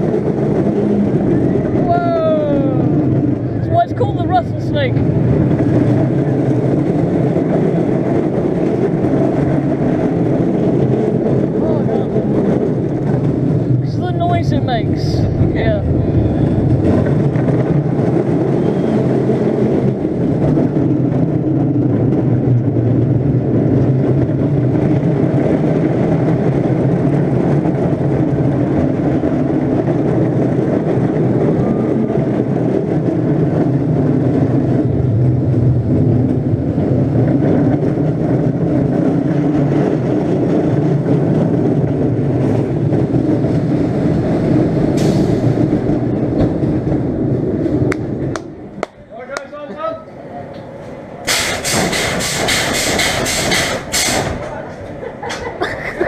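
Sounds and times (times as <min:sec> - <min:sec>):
roller coaster rumbling on track: 0:00.0 - 0:56.0.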